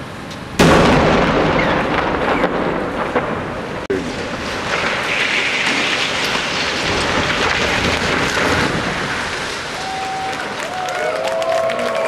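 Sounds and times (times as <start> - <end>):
falling masonry crashing: 0.6 - 11.0.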